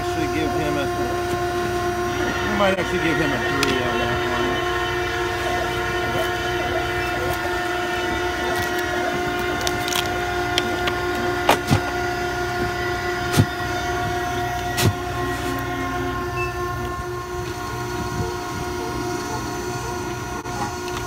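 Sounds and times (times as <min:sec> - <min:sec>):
electric motor humming: 0:00.0 - 0:21.0.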